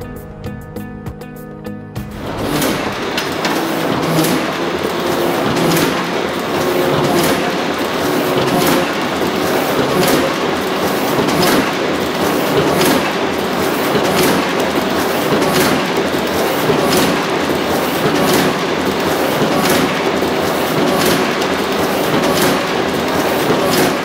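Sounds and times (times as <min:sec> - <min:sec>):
press mechanical clatter: 0:02.1 - 0:24.0.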